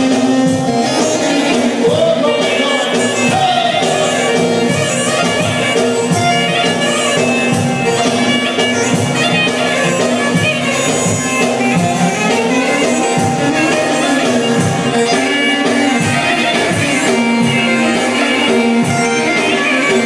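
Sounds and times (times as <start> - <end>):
electronic keyboard music: 0.0 - 20.0.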